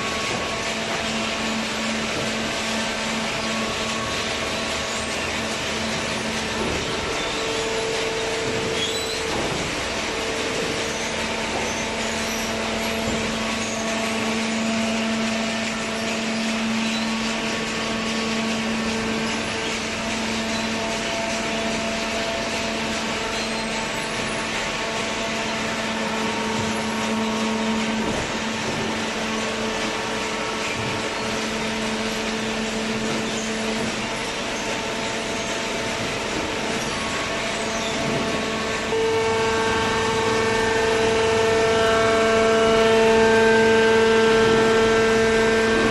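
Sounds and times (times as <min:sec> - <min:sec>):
baler machine humming and whirring: 0:00.0 - 0:45.9.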